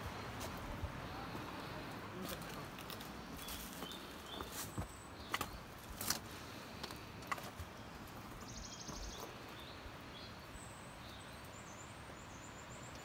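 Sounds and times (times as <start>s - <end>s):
faint outdoor hush: 0.0s - 13.0s.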